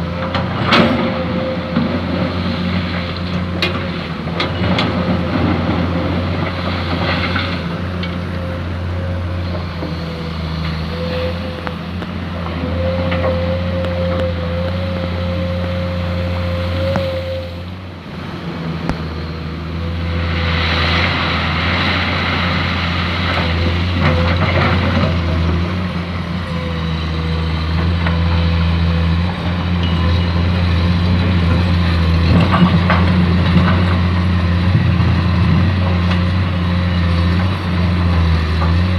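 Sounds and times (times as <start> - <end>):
excavator engine running under load: 0.0 - 38.9.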